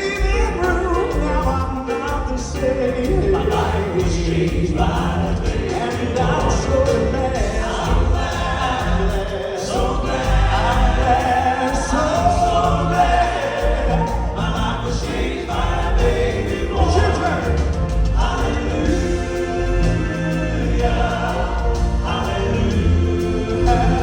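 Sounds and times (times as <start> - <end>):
band accompaniment with bass: 0.0 - 24.0
male vocal quartet singing: 0.0 - 24.0.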